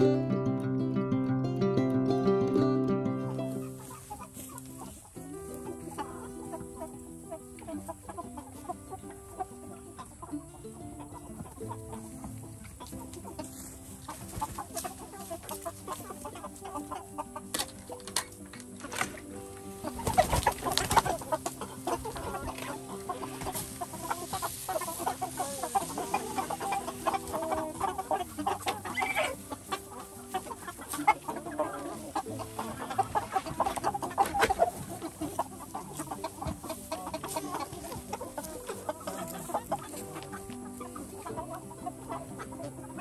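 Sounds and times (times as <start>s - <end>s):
chickens clucking and chattering: 0.0s - 43.0s.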